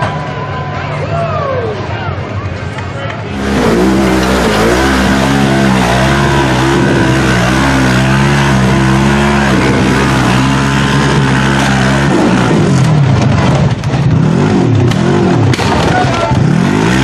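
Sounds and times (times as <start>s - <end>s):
off-road vehicle engine revving: 3.3s - 17.0s.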